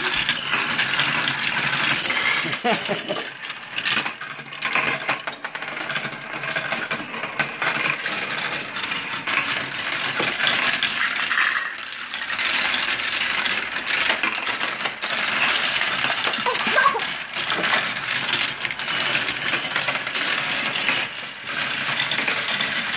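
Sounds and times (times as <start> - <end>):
marbles clattering on plastic track: 0.0 - 22.9.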